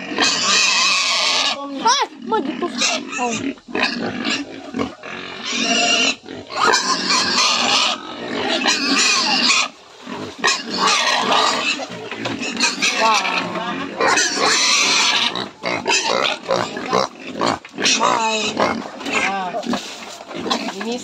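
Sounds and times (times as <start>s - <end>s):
pigs squealing and grunting: 0.0s - 21.0s.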